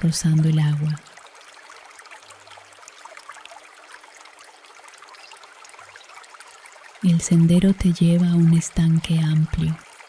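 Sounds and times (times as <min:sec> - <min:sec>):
water dripping and splashing: 0:00.0 - 0:10.0
water trickling: 0:00.0 - 0:10.0.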